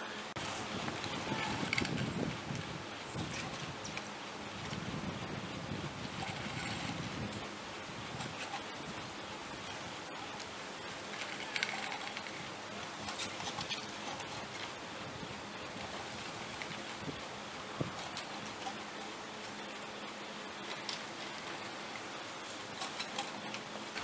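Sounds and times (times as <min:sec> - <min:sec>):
lift rope running over rollers: 0:00.0 - 0:24.0.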